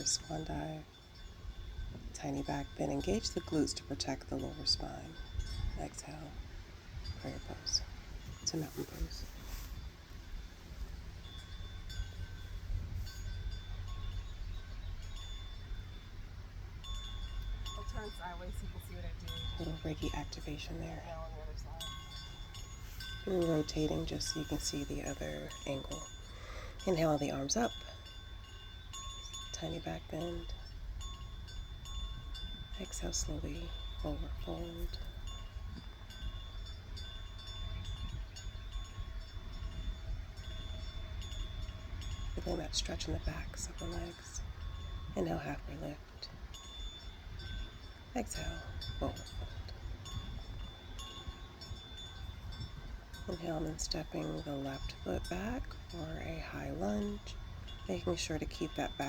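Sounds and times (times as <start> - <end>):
wind chimes ringing: 0.0 - 59.0
wind rumble on microphone: 0.0 - 59.0.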